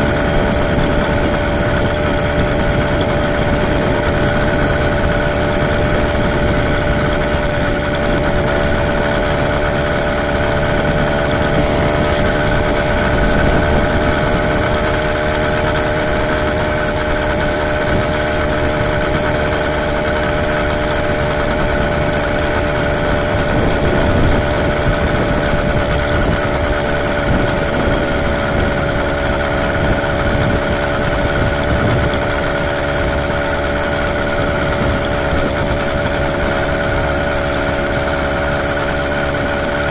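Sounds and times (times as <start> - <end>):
two-stroke engine running: 0.0 - 39.9
wind and road noise: 0.0 - 39.9.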